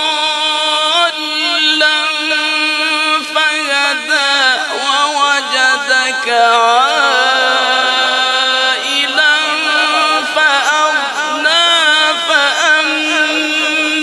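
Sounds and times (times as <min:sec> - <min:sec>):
person singing ornamented chant: 0:00.0 - 0:14.0.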